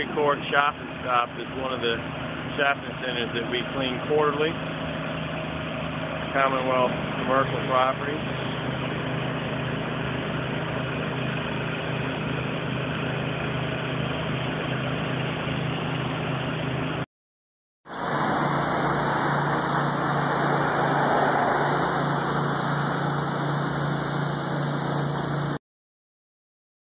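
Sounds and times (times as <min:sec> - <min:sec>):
pressure washer engine running: 0:00.0 - 0:16.8, 0:17.9 - 0:25.6.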